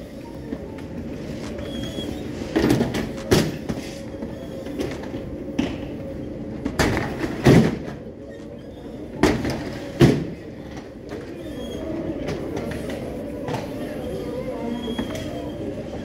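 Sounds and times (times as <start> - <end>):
baggage carousel humming: 0.0 - 16.0.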